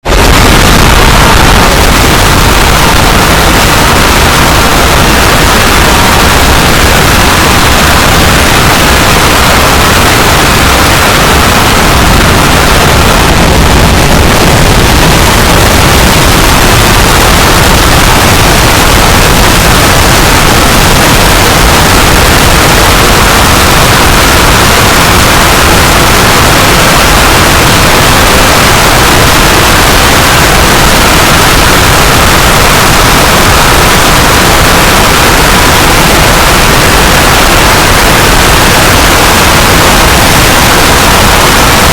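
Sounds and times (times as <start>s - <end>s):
loud static noise: 0.0s - 41.9s.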